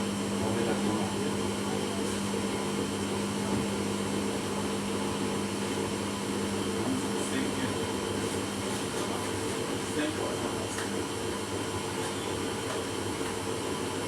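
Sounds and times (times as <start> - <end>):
washing machine running: 0.0 - 14.0.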